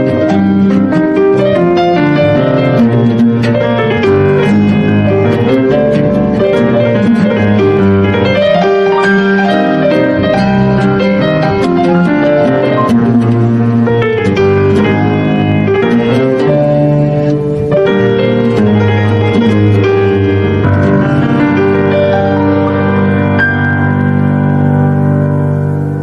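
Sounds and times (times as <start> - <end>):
instrumental background music: 0.0 - 26.0.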